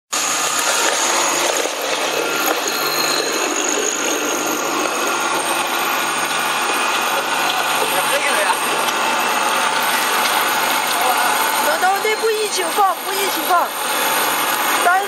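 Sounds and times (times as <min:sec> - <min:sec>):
grinding machine running: 0:00.1 - 0:15.0.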